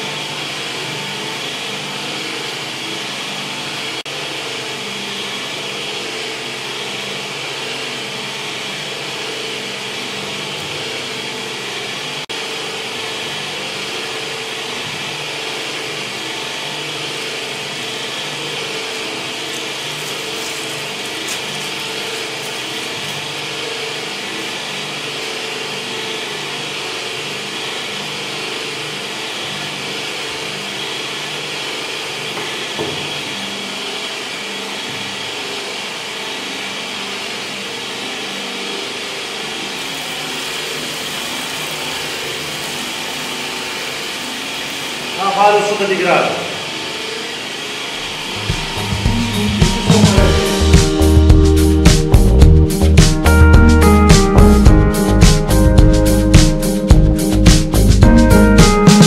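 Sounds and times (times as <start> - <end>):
electric meat mincer whirring: 0.0 - 59.0.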